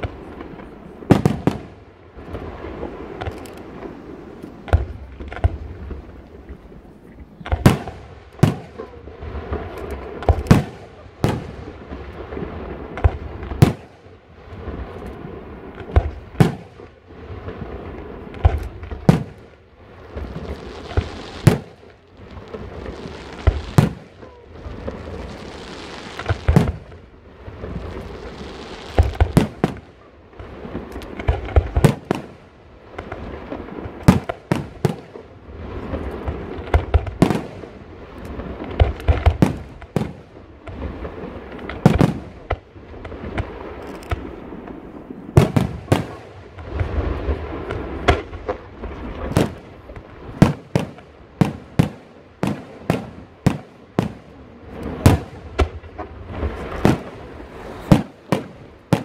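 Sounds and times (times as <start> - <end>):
firework shells booming: 0.0 - 6.2, 7.4 - 59.0
firework hiss and crackle: 0.0 - 59.0.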